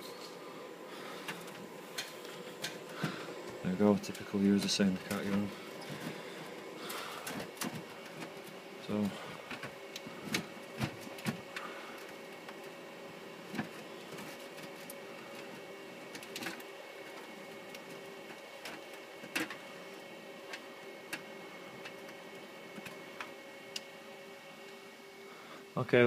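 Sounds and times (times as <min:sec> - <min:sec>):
cooling fans humming: 0:00.0 - 0:26.0.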